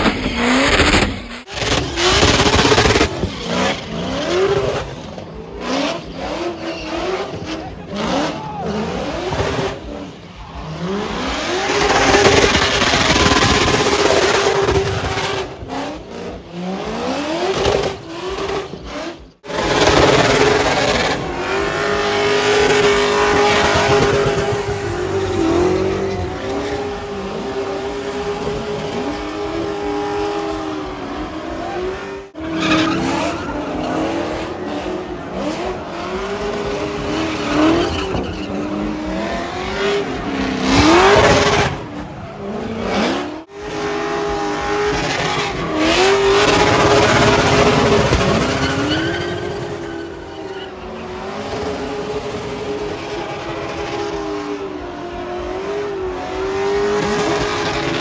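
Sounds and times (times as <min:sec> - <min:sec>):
tyres squealing: 0:00.0 - 0:15.5, 0:17.2 - 0:54.6
car engines revving: 0:00.0 - 0:58.0.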